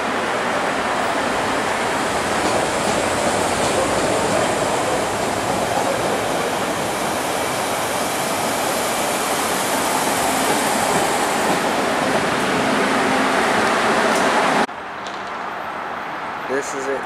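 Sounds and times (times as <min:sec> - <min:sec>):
train wheel and rail noise: 0:00.0 - 0:17.0.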